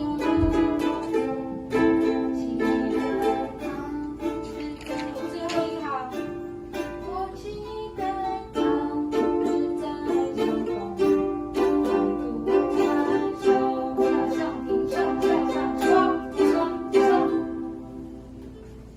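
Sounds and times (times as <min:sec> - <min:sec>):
ukulele strumming: 0:00.0 - 0:18.9.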